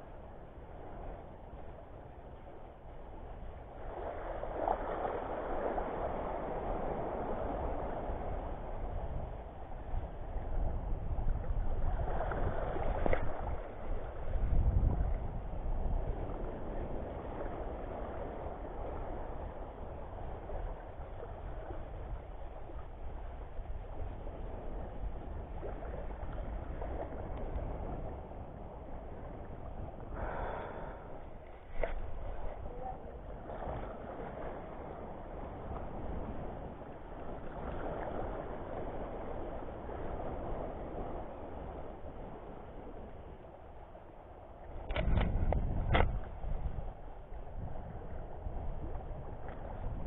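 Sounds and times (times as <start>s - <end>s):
small waves washing on shore: 0.0s - 50.0s
wind buffeting microphone: 0.0s - 50.0s.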